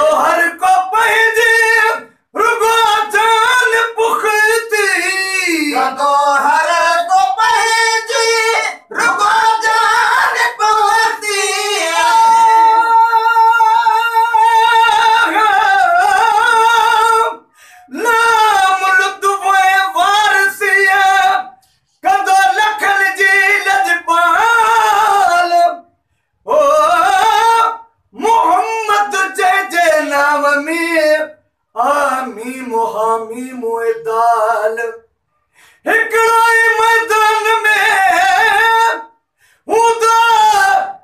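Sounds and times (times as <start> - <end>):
men singing unaccompanied: 0.0 - 35.1, 35.8 - 41.0.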